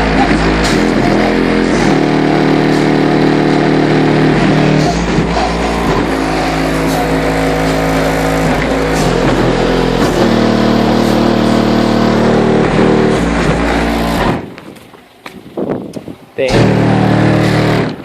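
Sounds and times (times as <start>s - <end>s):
bass-heavy music on car stereo: 0.0s - 14.8s, 16.4s - 18.0s.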